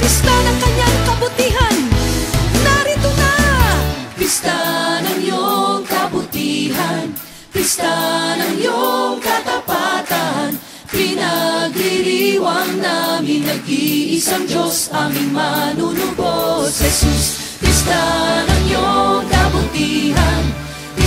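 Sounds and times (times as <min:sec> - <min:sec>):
group singing worship song: 0:03.2 - 0:21.0.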